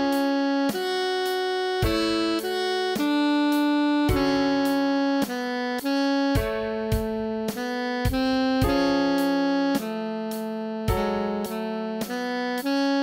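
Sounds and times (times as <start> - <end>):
sustained chord notes: 0.0 - 13.0
synthetic saxophone melody: 0.0 - 13.0.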